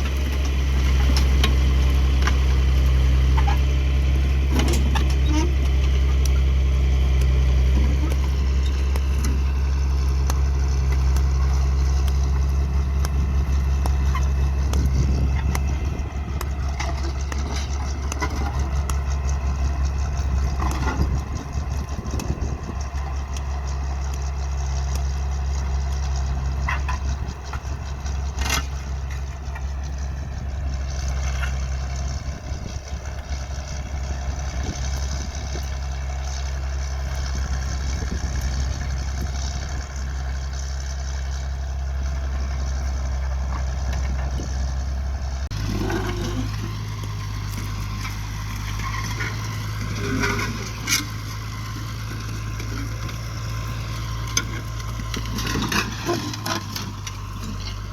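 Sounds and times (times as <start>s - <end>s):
tractor diesel engine: 0.0s - 57.9s.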